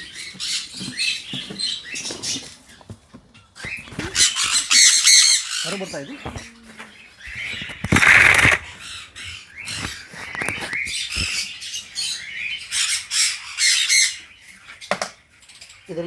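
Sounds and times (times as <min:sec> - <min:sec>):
parrots screeching: 0:00.0 - 0:02.8, 0:03.6 - 0:16.0.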